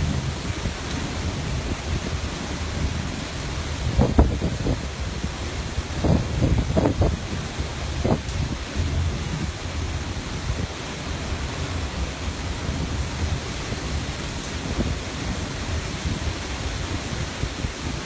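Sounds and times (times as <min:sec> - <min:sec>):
gusty low rumble: 0:00.0 - 0:18.0
rough sea rushing: 0:00.0 - 0:18.0
wind buffeting microphone: 0:00.0 - 0:18.0.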